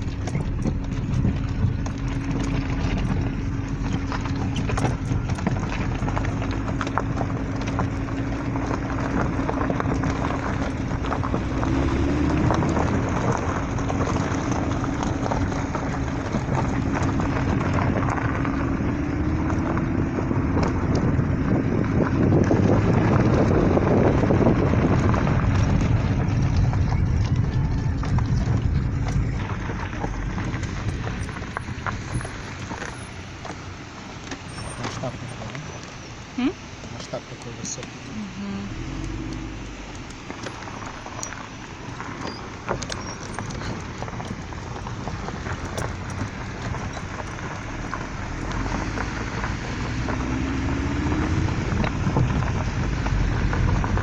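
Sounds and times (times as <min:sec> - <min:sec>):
car engine drone: 0:00.0 - 0:54.0
rattling and knocking over bumps: 0:00.0 - 0:54.0.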